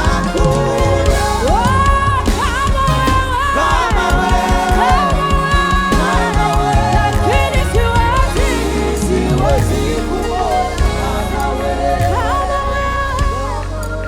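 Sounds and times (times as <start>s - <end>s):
full band playing: 0.0s - 14.0s
singers holding long notes: 0.0s - 14.0s.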